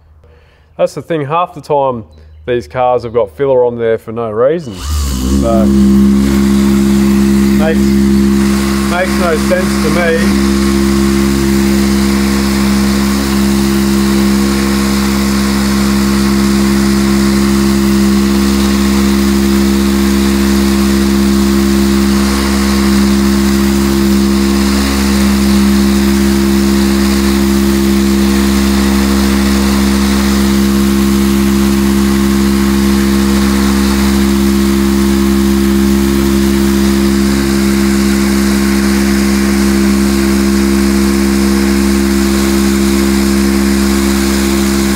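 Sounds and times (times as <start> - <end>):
orbital sander on metal: 4.6 - 44.9.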